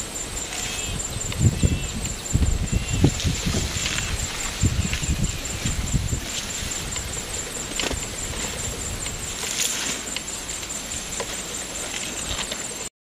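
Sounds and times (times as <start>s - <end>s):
outdoor background hiss: 0.0s - 12.9s.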